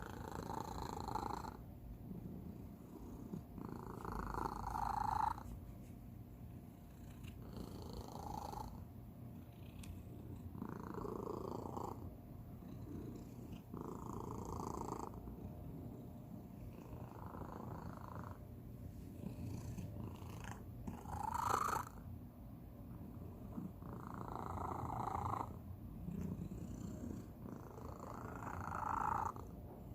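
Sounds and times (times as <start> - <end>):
cat purring: 0.0 - 5.6, 6.2 - 22.1, 22.7 - 29.9.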